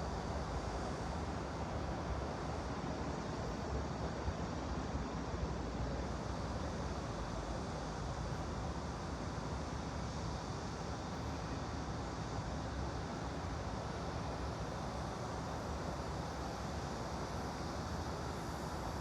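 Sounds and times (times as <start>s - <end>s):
white noise: 0.0s - 19.0s.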